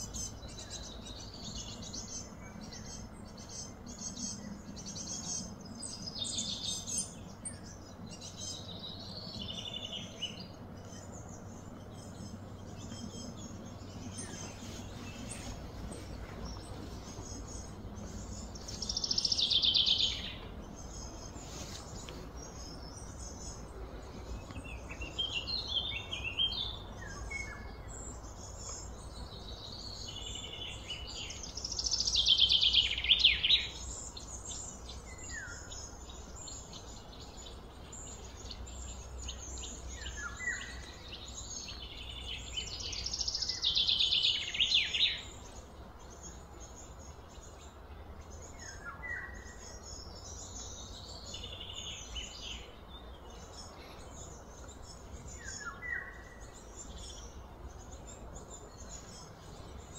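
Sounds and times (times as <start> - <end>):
bird chirps: 0.0 - 59.9.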